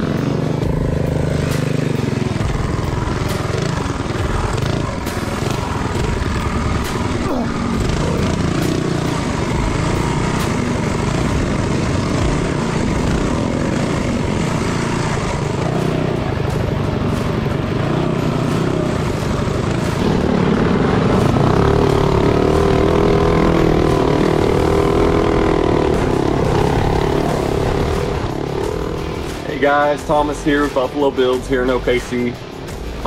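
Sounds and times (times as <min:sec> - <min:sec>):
small engine running hard: 0:00.0 - 0:33.0.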